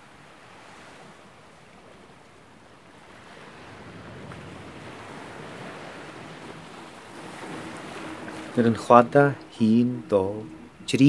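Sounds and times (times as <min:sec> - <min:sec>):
sea surf washing: 0:00.0 - 0:11.0
wind: 0:00.0 - 0:11.0.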